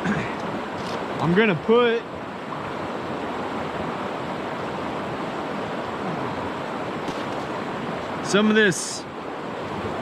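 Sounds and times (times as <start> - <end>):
small waves washing on shore: 0.0 - 10.0.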